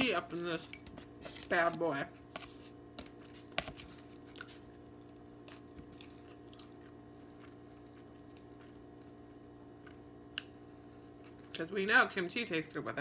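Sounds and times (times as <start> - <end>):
steady low hum: 0.0 - 13.0
soft chewing: 0.3 - 11.7.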